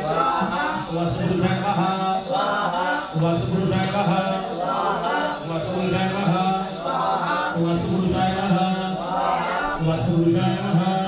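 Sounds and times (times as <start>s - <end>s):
person chanting: 0.0s - 11.0s.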